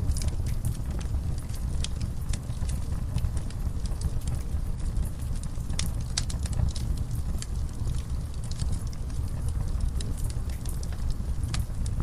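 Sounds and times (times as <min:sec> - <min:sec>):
fire rumbling: 0:00.0 - 0:12.0
logs crackling and popping: 0:00.0 - 0:12.0.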